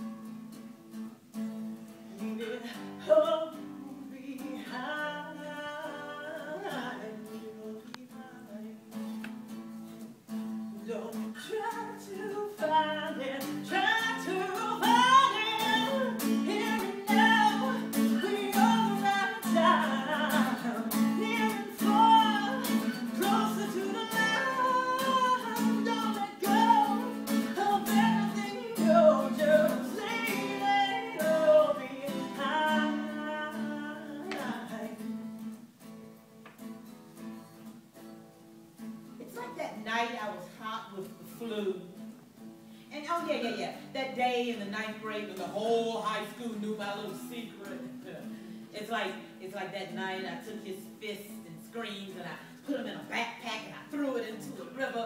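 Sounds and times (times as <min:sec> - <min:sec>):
acoustic guitar strumming: 0:00.0 - 0:55.0
woman singing: 0:01.8 - 0:09.1, 0:10.7 - 0:35.5, 0:42.9 - 0:55.0.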